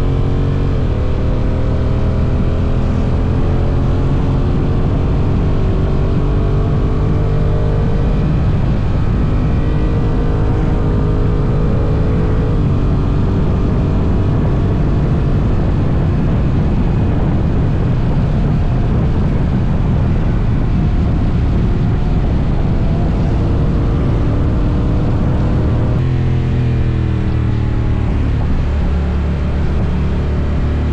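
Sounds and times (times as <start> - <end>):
motorcycle engine at speed: 0.0 - 30.9
wind rush on microphone: 0.0 - 30.9.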